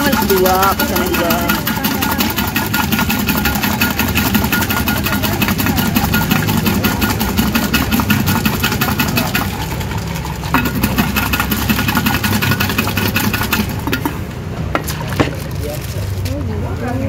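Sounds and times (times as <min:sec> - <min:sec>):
ice rattling in a shaker: 0:00.0 - 0:17.0.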